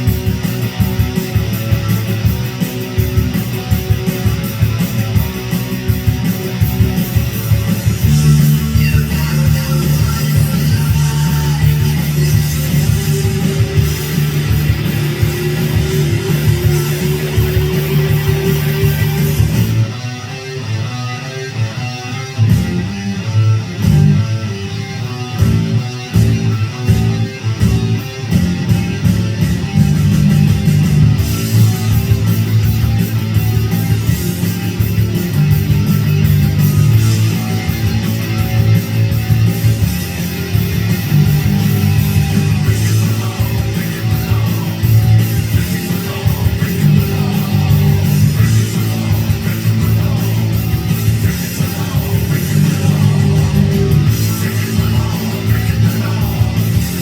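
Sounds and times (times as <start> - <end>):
pulsing beat: 0.0 - 20.0, 25.4 - 57.0
low bass notes: 0.0 - 20.2, 22.4 - 57.0
distorted electric guitar: 0.0 - 57.0.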